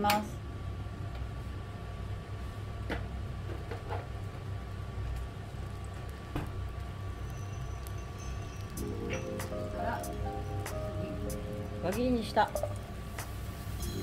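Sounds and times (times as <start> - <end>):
stove humming: 0.0 - 14.0.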